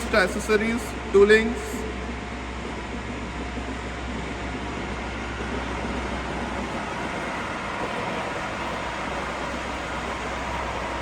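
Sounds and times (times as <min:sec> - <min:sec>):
low hum: 0:00.0 - 0:11.0
machine humming and whirring: 0:00.0 - 0:11.0.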